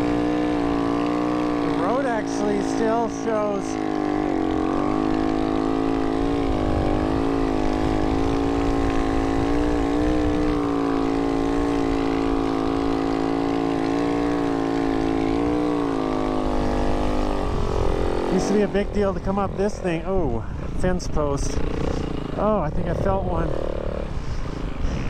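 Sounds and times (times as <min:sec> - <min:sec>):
snow bike engine at high revs: 0:00.0 - 0:25.0.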